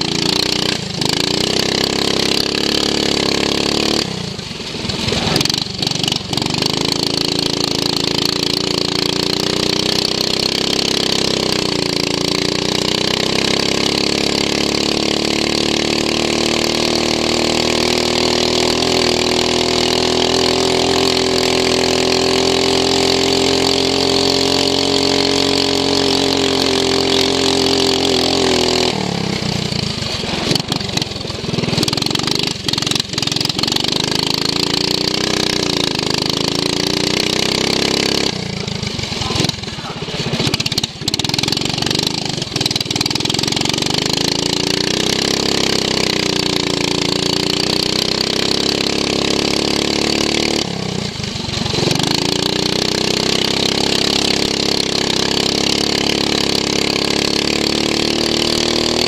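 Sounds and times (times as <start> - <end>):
lawn mower engine revving: 0.0 - 59.0.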